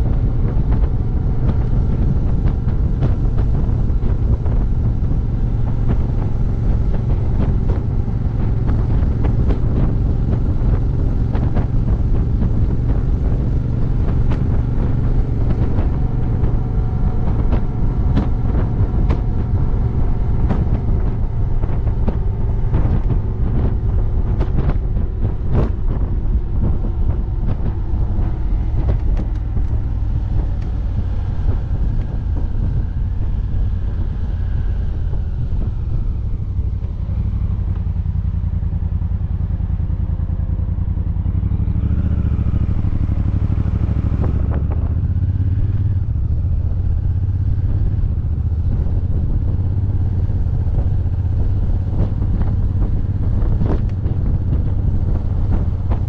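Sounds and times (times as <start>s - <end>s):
motorcycle engine cruising: 0.0s - 56.0s
wind rumbling on microphone: 0.0s - 56.0s.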